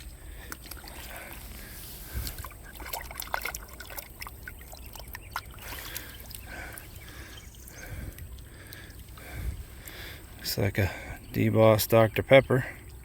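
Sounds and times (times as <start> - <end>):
river water trickling: 0.0 - 13.0.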